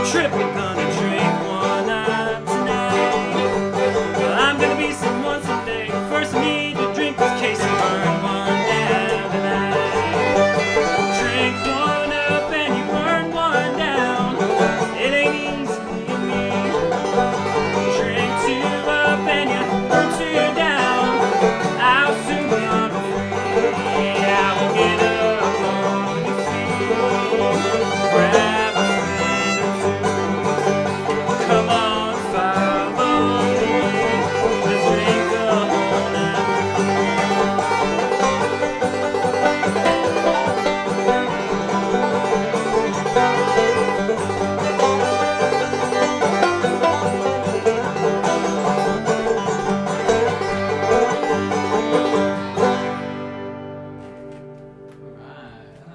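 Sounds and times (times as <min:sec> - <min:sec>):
acoustic guitars strumming: 0:00.0 - 0:55.6
banjo: 0:00.0 - 0:55.9
fiddle with sliding notes: 0:00.0 - 0:55.9.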